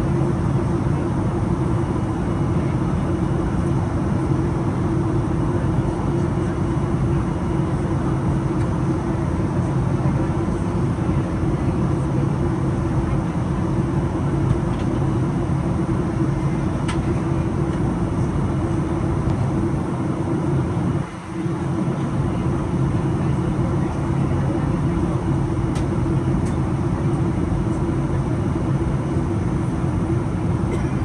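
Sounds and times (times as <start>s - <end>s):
airplane cabin drone: 0.0s - 31.0s.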